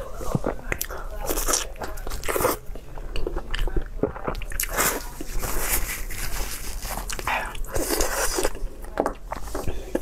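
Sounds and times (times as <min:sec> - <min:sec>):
person chewing meat: 0:00.3 - 0:10.0.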